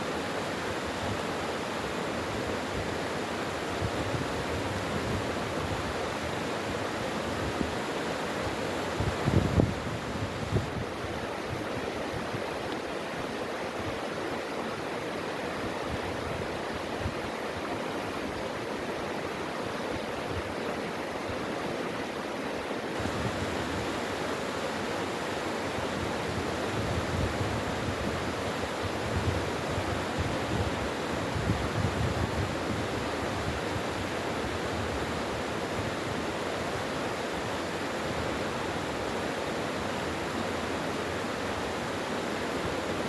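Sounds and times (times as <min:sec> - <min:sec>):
water rushing over rocks: 0:00.0 - 0:43.0.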